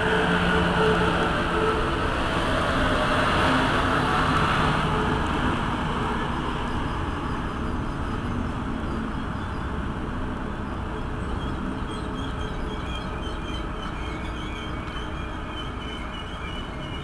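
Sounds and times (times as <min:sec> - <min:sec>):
train fans whirring hum: 0:00.0 - 0:17.0.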